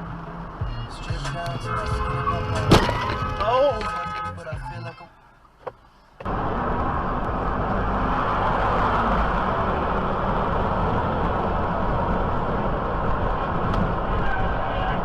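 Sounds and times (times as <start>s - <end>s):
moving car road noise: 0.0s - 15.0s.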